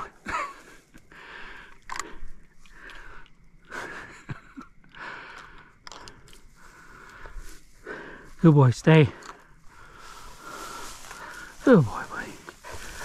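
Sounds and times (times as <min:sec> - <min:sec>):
person breathing heavily: 0:00.0 - 0:13.0.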